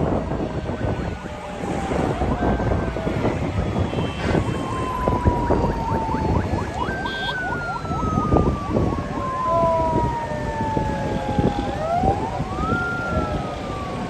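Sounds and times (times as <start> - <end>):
engine and traffic noise: 0.0 - 14.0
police sirens wailing: 0.0 - 14.0.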